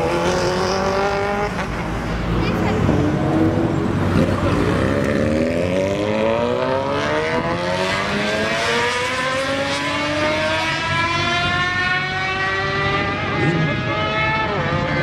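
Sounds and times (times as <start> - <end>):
motorcycle engine accelerating: 2.5 - 15.0.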